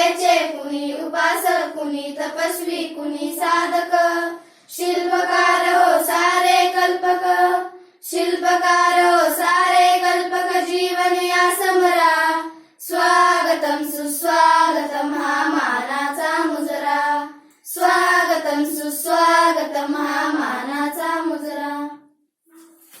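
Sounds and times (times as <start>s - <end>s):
child singing: 0.0s - 22.1s.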